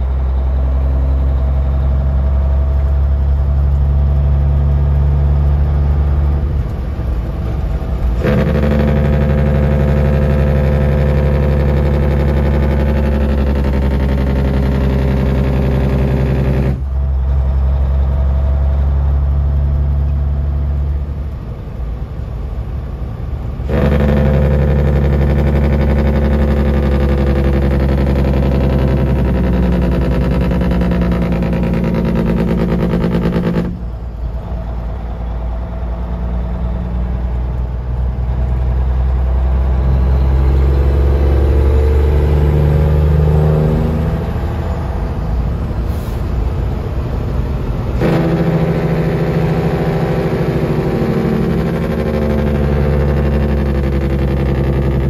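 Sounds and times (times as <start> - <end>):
truck diesel engine braking: 0.0 - 55.0.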